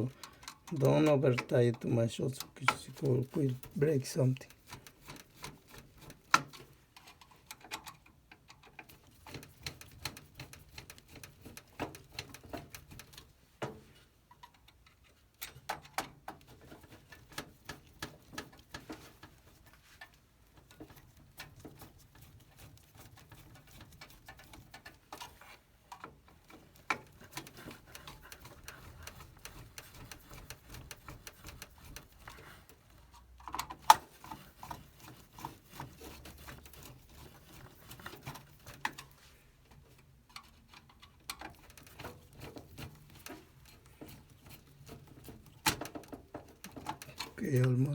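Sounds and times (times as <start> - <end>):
small clicks of screws tightened: 0.0 - 47.4.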